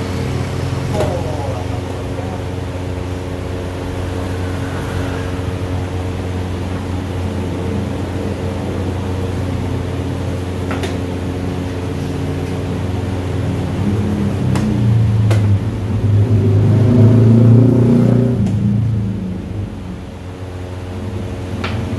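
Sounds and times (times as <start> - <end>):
low machine hum: 0.0 - 21.9.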